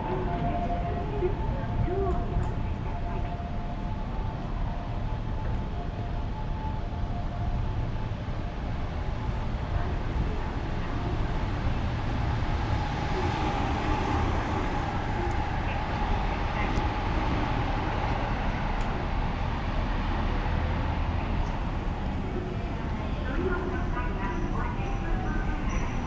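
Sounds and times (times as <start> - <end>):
rumble of passing vehicles: 0.0 - 26.0
thin steady whine: 0.0 - 26.0.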